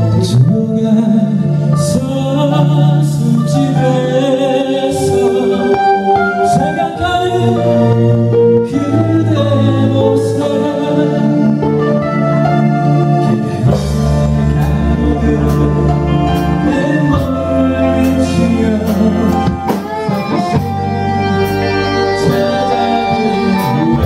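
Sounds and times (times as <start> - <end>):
bass guitar: 0.0 - 24.0
drums: 0.0 - 24.0
electric guitar: 0.0 - 24.0.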